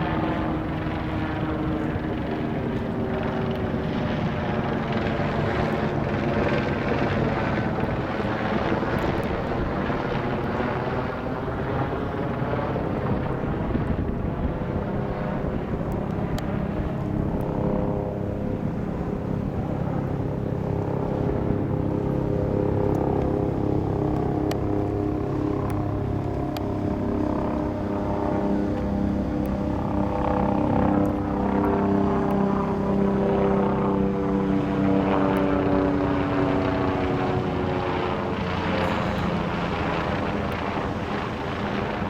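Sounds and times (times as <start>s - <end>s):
helicopter flying overhead: 0.0s - 42.0s.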